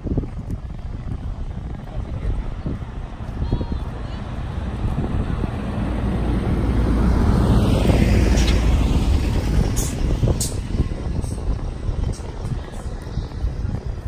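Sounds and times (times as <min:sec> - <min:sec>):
coach driving past: 0:00.7 - 0:14.0.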